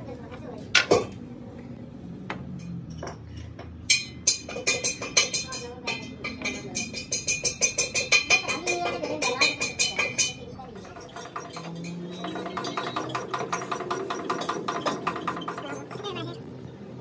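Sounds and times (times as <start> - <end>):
steel tooling clinking: 2.6 - 16.3.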